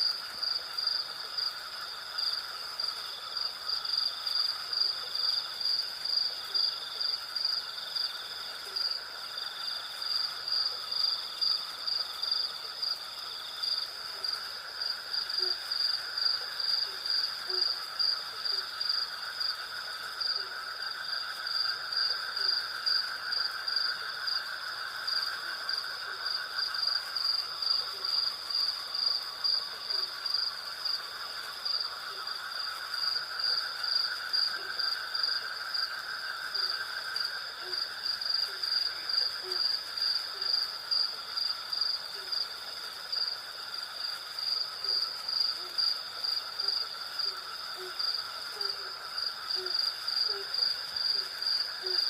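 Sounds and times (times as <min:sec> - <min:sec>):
crickets trilling: 0:00.0 - 0:52.0
insects buzzing: 0:00.0 - 0:52.0.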